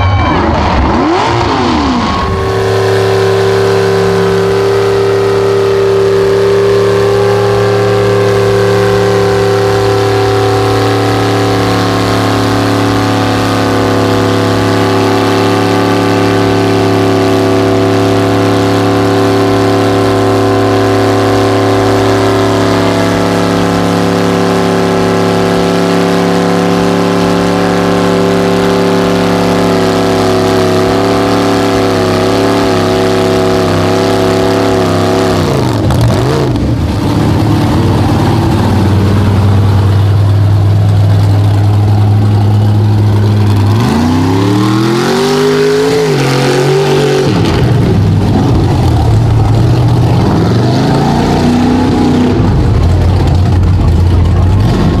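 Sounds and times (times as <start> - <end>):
truck engine revving: 0.0 - 55.0
truck engine running steadily: 0.0 - 55.0.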